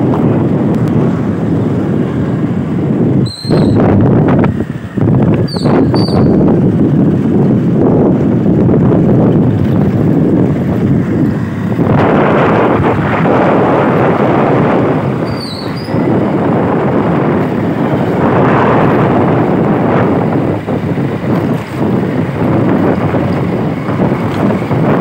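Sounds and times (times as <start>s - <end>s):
motorbike engine and road noise: 0.0s - 25.0s
wind buffeting microphone: 0.0s - 25.0s.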